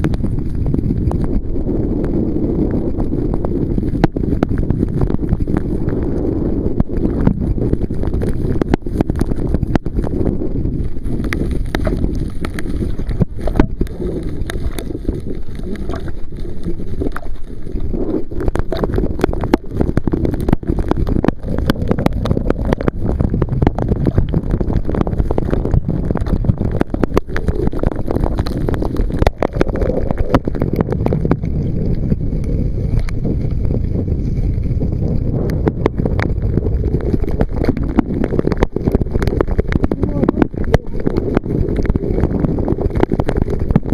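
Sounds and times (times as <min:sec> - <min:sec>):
rain tapping on microphone: 0:00.0 - 0:43.9
wind rumbling on microphone: 0:00.0 - 0:43.9.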